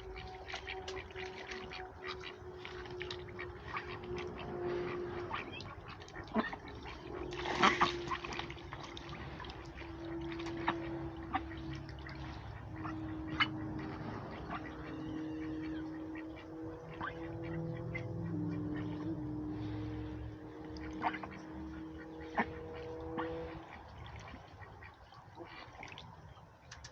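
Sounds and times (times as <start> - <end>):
low hum: 0.0 - 26.9
poultry clicks and calls: 0.0 - 26.9.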